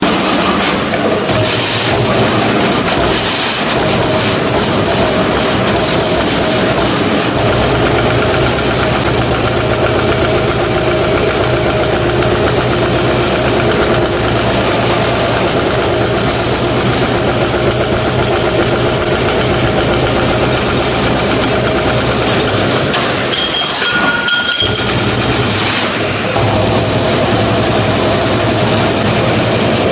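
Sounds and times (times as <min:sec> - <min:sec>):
stamping press punching: 0:00.0 - 0:24.0.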